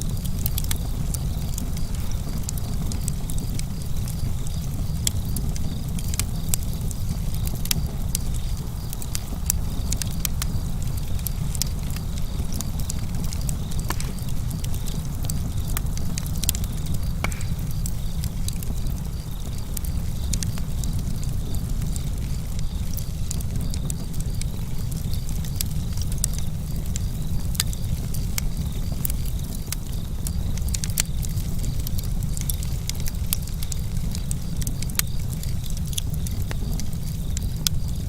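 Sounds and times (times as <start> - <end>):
campfire crackling and popping: 0.0 - 38.0
low rumble of burning wood: 0.0 - 38.0.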